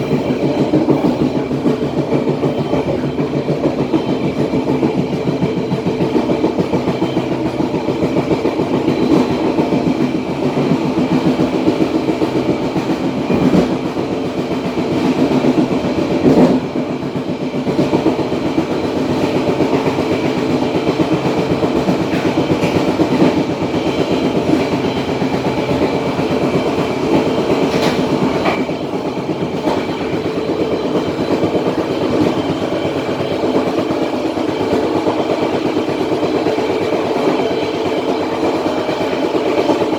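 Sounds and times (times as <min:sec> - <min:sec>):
loud rail clacks: 0:00.0 - 0:39.9
rhythmic wheel clatter: 0:00.0 - 0:39.9
train wheels rumbling on rails: 0:00.0 - 0:39.9.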